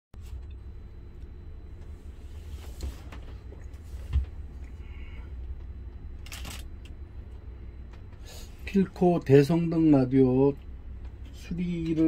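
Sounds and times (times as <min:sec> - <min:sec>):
low background hum: 0:00.2 - 0:12.0.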